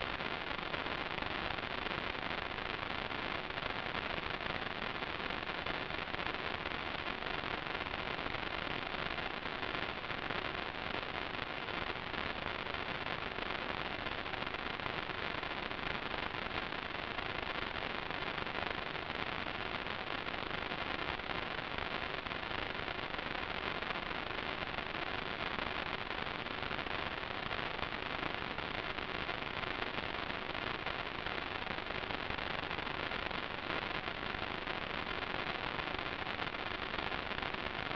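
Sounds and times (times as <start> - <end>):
steady static hiss: 0.0 - 37.9.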